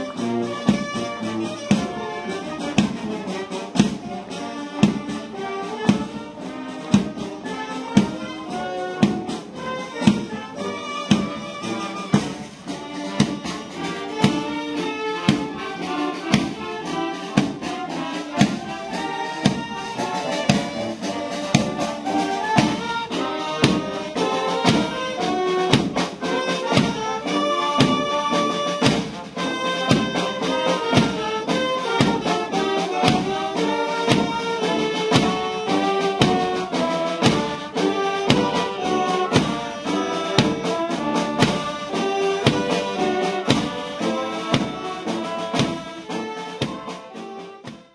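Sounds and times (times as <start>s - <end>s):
instrumental music with brass: 0.0s - 47.9s.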